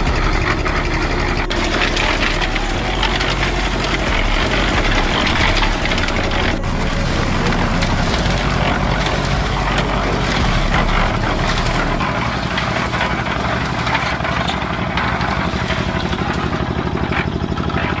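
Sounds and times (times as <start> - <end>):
concrete mixer running: 0.0 - 18.0.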